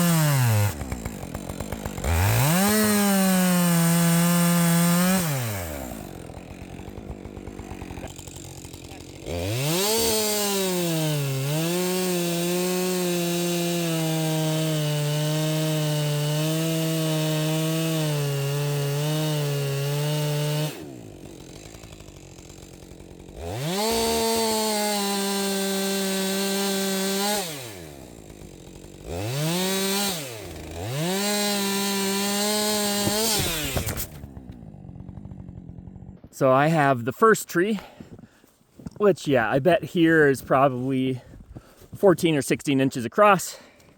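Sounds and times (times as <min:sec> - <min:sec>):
chainsaw cutting a tree trunk: 0:00.0 - 0:38.5
chainsaw idling: 0:00.0 - 0:38.5.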